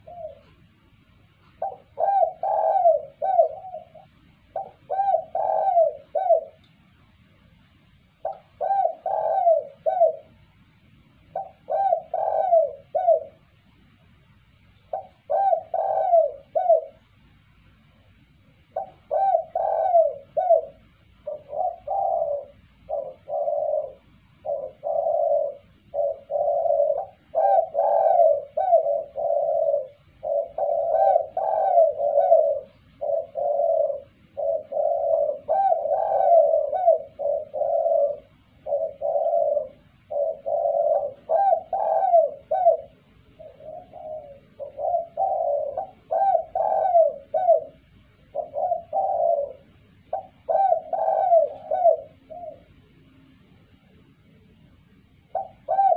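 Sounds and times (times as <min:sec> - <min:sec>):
dove cooing: 0:00.0 - 0:14.1, 0:14.8 - 0:55.9.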